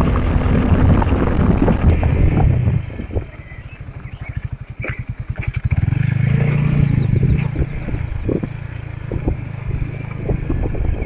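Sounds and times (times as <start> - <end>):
small motorcycle engine: 0.0 - 11.0.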